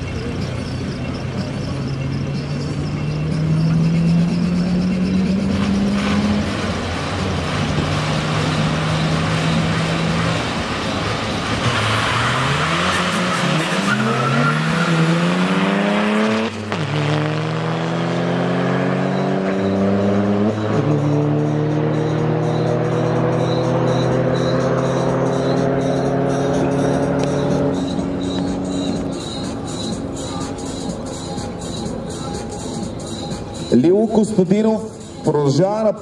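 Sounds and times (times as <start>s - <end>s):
drag racing cars accelerating: 0.0s - 36.0s.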